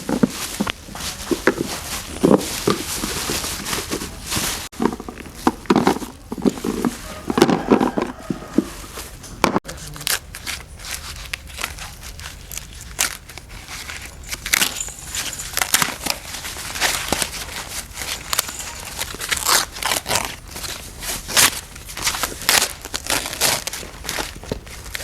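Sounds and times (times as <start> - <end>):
crinkling: 0.0 - 25.0
scraping: 0.0 - 25.0.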